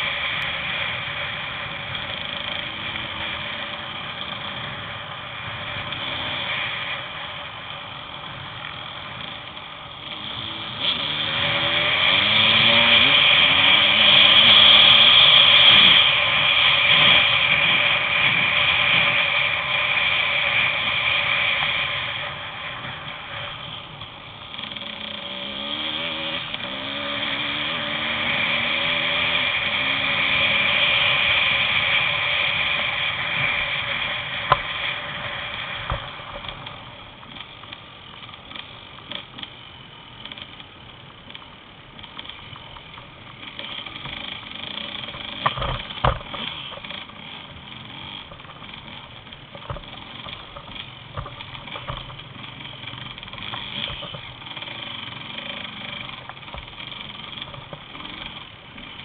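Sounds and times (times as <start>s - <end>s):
motorbike engine whining: 0.0s - 59.0s.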